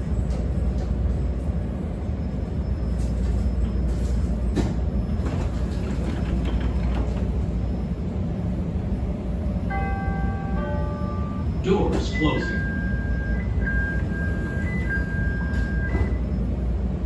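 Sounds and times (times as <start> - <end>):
train doors sliding open: 0.0 - 8.2, 9.7 - 17.0
train car low rumble: 0.0 - 17.0.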